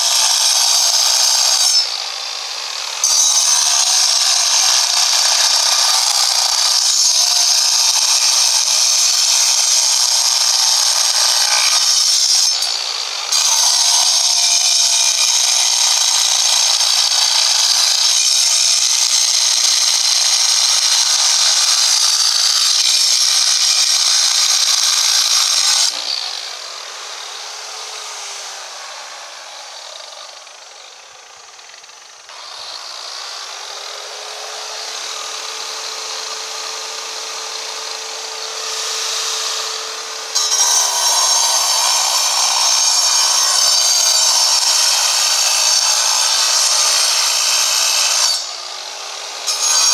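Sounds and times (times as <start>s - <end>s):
angle grinder cutting stone: 0.0s - 49.9s.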